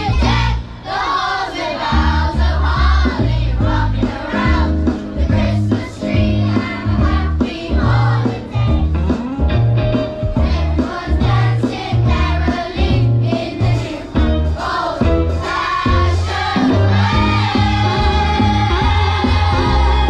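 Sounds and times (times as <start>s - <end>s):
strong bass line: 0.0s - 0.8s, 1.8s - 20.0s
choir singing: 0.0s - 8.7s, 10.4s - 20.0s
instrumental accompaniment: 0.0s - 20.0s.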